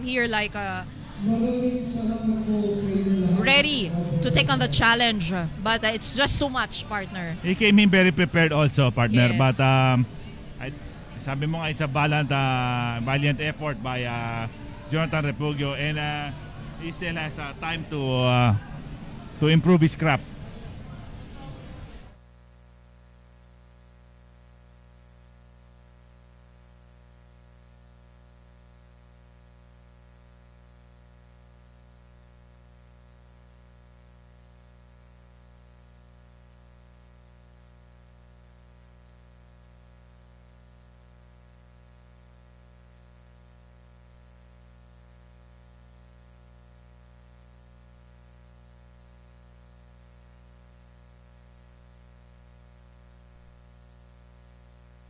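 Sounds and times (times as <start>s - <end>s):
faint electrical mains hum: 0.0s - 55.0s.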